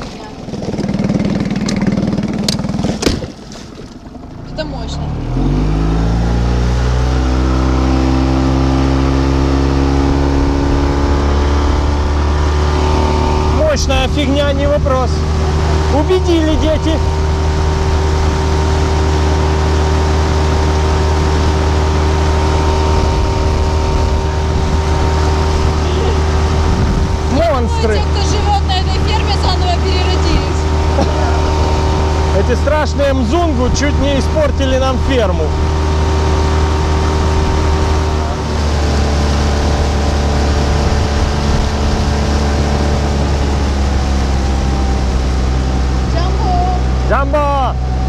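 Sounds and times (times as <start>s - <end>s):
outboard motor droning: 0.0s - 48.0s.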